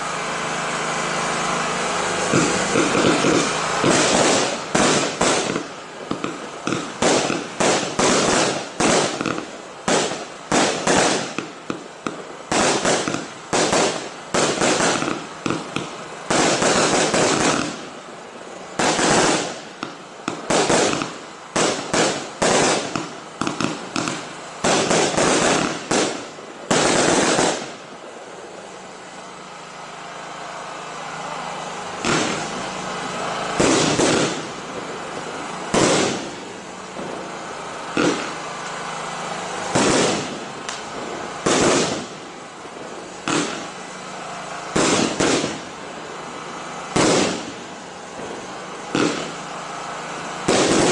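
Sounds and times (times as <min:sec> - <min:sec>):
firework hiss: 0:00.0 - 0:50.9
firework shots bursting with crackle: 0:00.0 - 0:50.9.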